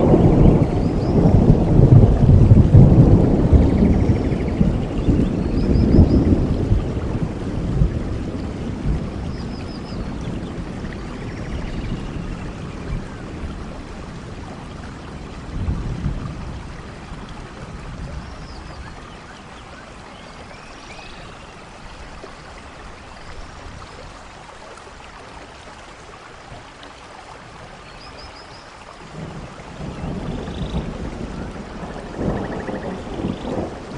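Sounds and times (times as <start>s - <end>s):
rain falling through foliage: 0.0s - 33.9s.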